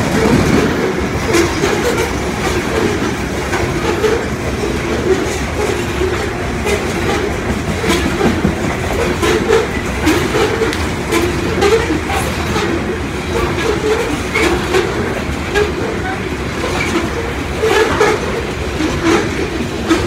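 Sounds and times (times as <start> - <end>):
freight train rumbling past: 0.0 - 20.0
wheels clicking over rail joints: 0.0 - 20.0.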